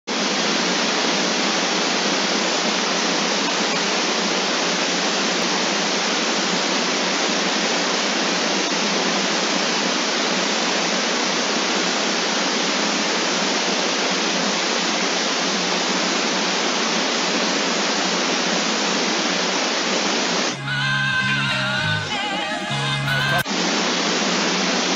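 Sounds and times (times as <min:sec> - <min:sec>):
steady static hiss: 0:00.1 - 0:24.9.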